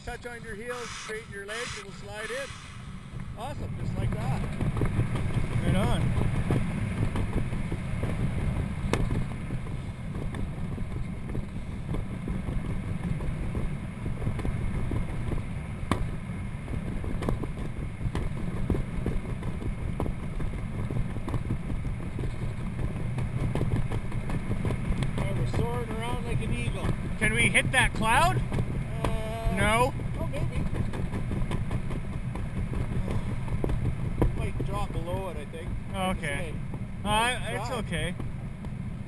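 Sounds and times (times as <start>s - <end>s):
wind buffeting microphone: 0.0s - 37.8s.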